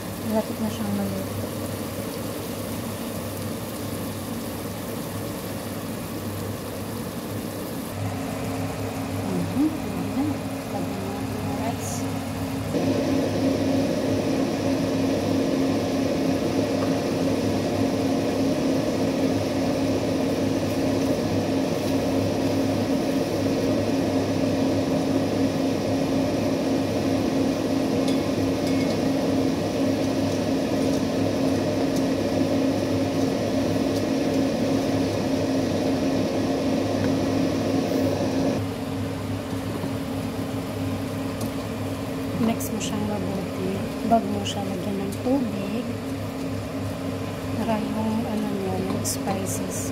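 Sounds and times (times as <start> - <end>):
range hood fan whirring: 0.0 - 49.9.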